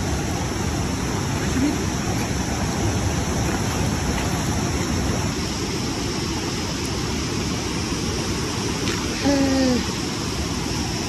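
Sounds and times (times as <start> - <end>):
fast river rushing: 0.0 - 11.0.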